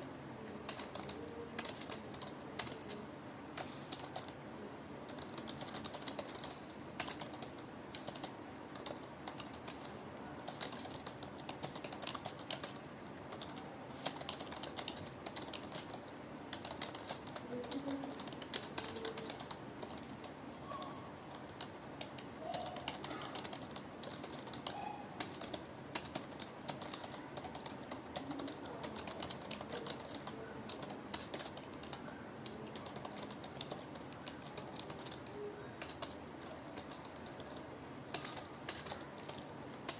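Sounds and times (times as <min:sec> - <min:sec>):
computer keyboard typing: 0:00.6 - 0:04.4, 0:05.0 - 0:39.9.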